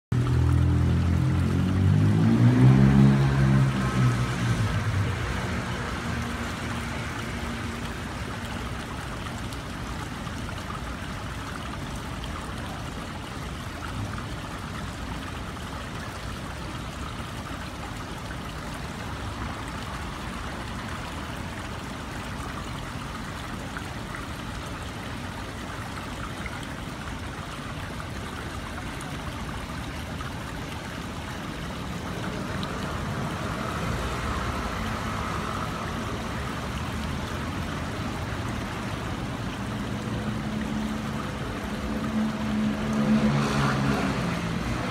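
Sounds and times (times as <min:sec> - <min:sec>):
stream trickling over stones: 0:00.1 - 0:44.9.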